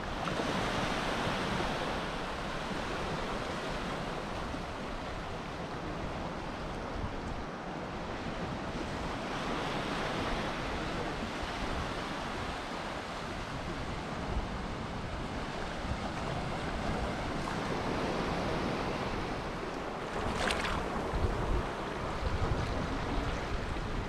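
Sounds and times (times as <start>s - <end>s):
waves washing onto beach: 0.0s - 24.0s
wind rumbling on microphone: 0.0s - 24.0s.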